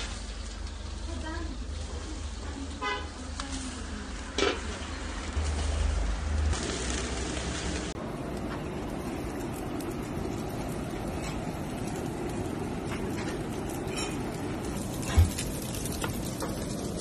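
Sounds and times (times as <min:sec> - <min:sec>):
kitchen background noise: 0:00.0 - 0:17.0.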